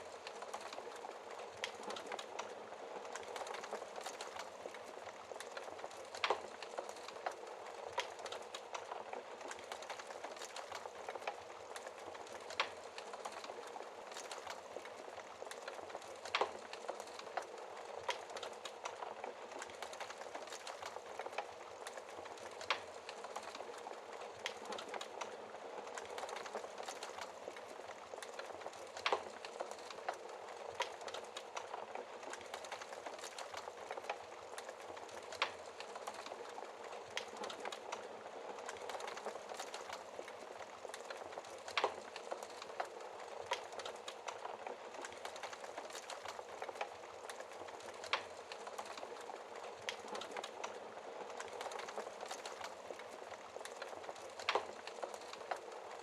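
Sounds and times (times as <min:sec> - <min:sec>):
sharp crack of fire: 0:00.0 - 0:56.0
wood fire crackling: 0:00.0 - 0:56.0.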